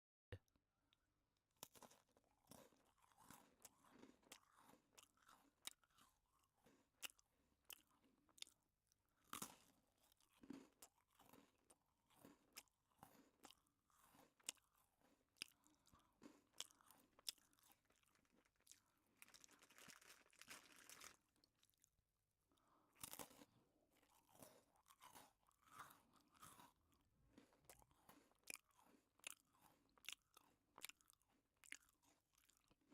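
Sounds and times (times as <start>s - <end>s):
person chewing crisp biscuit: 1.5s - 32.9s.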